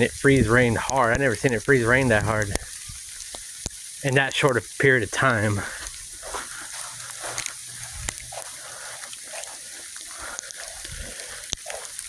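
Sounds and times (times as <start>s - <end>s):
heavy sleet hissing: 0.0s - 12.0s
ice pellets ticking on surfaces: 0.0s - 12.0s.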